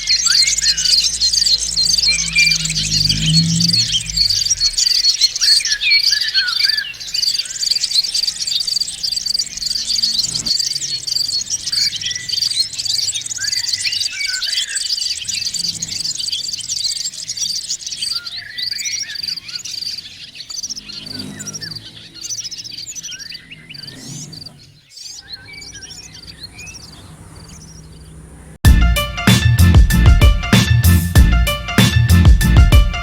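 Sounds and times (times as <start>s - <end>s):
flock of birds chirping: 0.0s - 28.6s.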